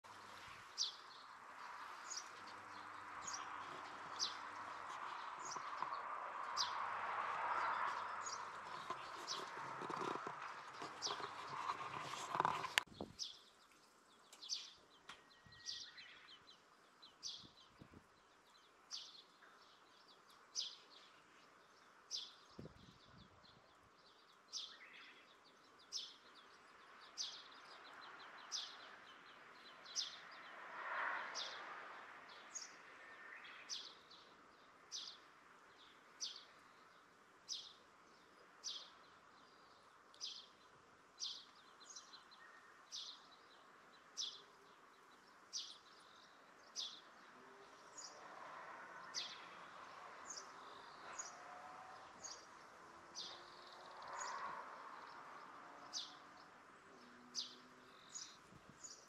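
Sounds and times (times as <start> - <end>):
bird chirping: 0.0 - 6.9, 7.5 - 30.5, 32.3 - 59.0.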